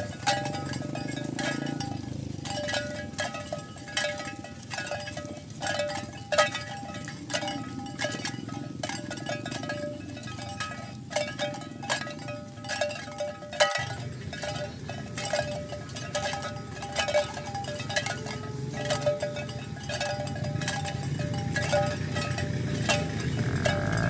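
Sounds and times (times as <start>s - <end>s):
cowbells clanking: 0.0s - 24.0s.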